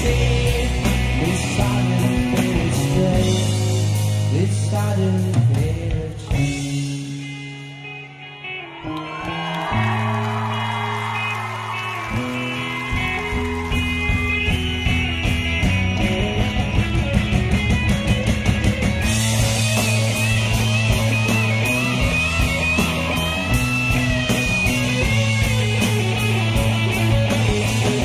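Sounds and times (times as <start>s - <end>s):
electric guitar lead: 0.0s - 28.0s
rock band playing: 0.0s - 28.0s.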